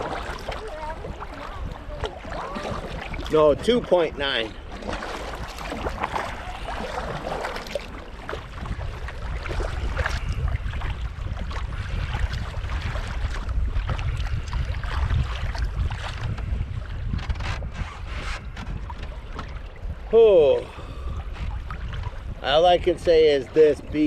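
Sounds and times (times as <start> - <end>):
kayak paddles splashing in water: 0.0 - 24.0
wind rumbling on microphone: 0.0 - 24.0.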